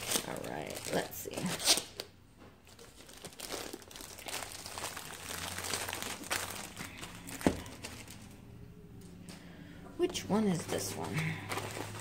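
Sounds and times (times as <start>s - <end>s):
plastic sleeve crinkling: 0.0s - 8.4s, 10.5s - 12.0s.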